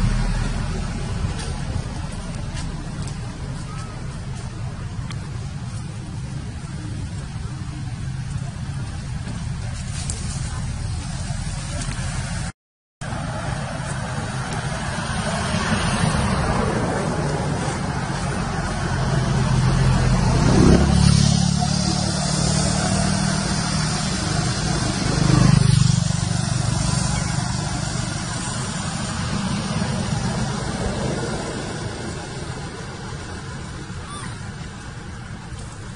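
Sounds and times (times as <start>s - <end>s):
outdoor rumble: 0.0s - 35.9s.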